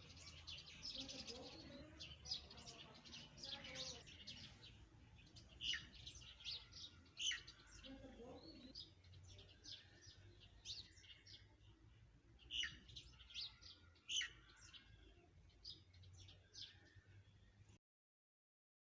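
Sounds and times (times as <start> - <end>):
small birds chirping: 0.0 - 17.8.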